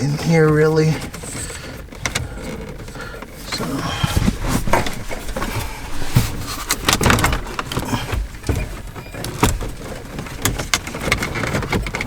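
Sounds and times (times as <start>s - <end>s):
plastic parts clicking and knocking: 0.0s - 12.0s.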